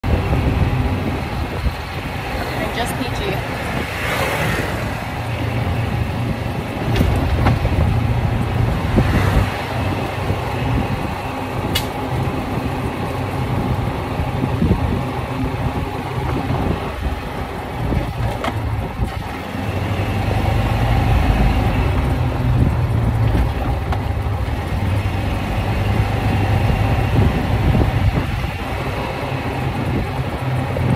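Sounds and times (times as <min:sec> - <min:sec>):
golf cart rumbling: 0:00.0 - 0:30.9
wind buffeting microphone: 0:00.0 - 0:30.9.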